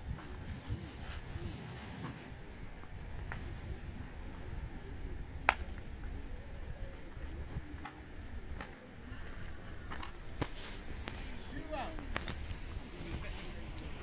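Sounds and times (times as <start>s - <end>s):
low wind rumble: 0.0s - 14.0s
faint distant voices: 0.2s - 14.0s.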